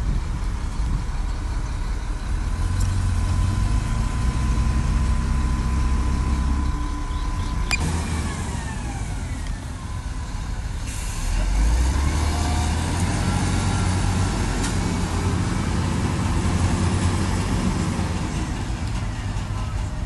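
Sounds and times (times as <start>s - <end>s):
diesel machinery engine rumble: 0.0s - 20.0s.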